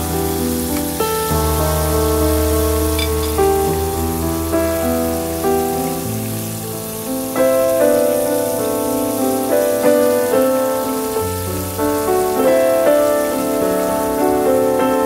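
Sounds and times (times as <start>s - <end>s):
food frying in oil: 0.0s - 14.6s
instrumental background music: 0.0s - 15.0s.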